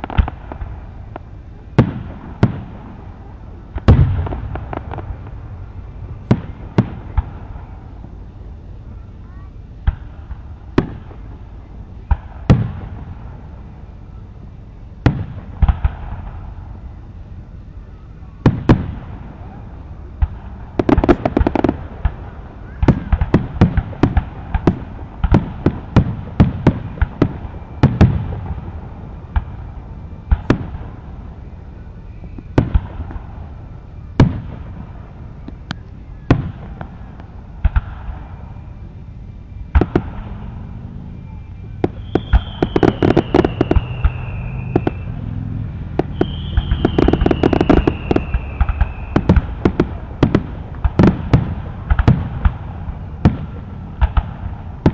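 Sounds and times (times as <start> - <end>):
fireworks bangs and pops: 0.0 - 5.5, 6.1 - 7.7, 9.8 - 13.4, 15.0 - 16.6, 18.4 - 19.6, 20.2 - 31.1, 32.1 - 33.6, 34.2 - 38.7, 39.5 - 40.6, 41.2 - 45.2, 45.9 - 54.9
fireworks crackling: 0.0 - 54.9
whistling fireworks: 0.0 - 54.9.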